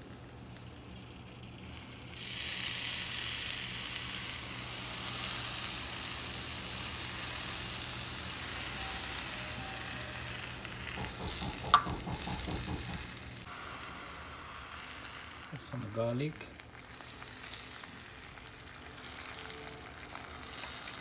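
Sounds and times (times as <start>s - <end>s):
coconut milk sizzling in a pan: 0.0s - 21.0s.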